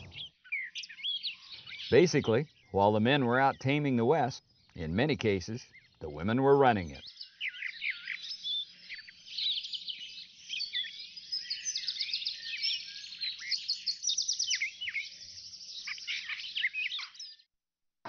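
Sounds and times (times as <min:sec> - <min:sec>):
songbirds singing: 0:00.0 - 0:17.5.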